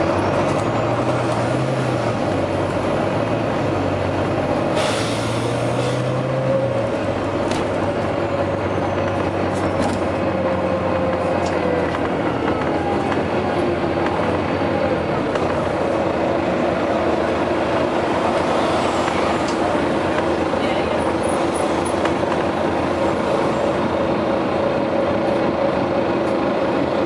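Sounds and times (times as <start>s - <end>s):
bus diesel engine running: 0.0s - 27.0s.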